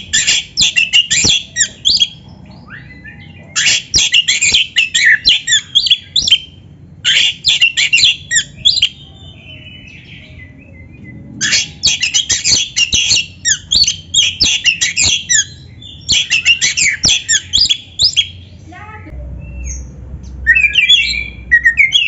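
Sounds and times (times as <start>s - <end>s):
songbird chattering and whistling: 0.0s - 18.6s, 19.4s - 22.0s.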